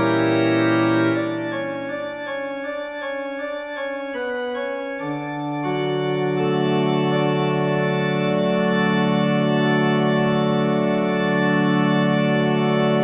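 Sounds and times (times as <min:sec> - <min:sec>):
organ chord held: 0:00.0 - 0:13.0.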